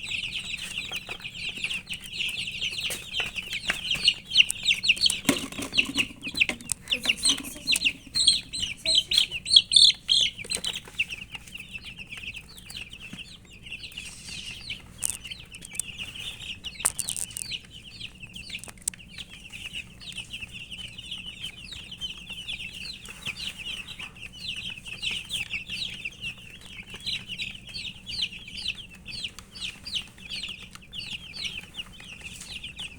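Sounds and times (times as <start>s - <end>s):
baby chicks peeping: 0.0s - 32.9s.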